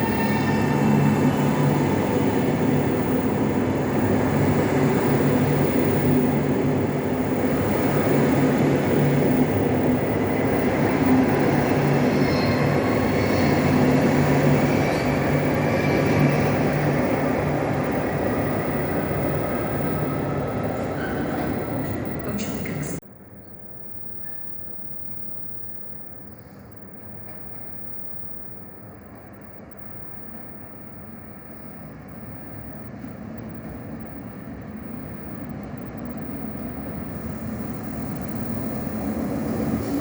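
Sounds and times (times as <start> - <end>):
electric train rumbling past: 0.0 - 23.0, 29.8 - 40.0.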